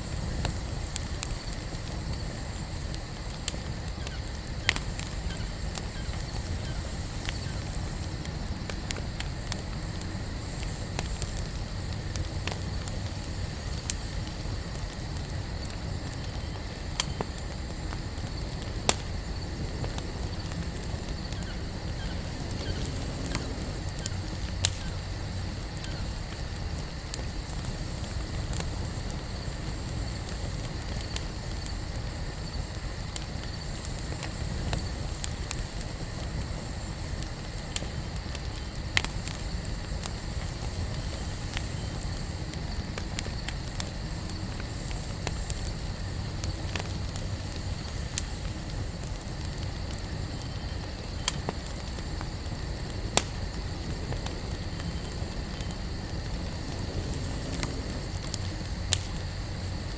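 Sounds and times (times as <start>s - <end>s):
low rumble of flames: 0.0s - 59.9s
wood crackling and popping: 0.0s - 59.9s.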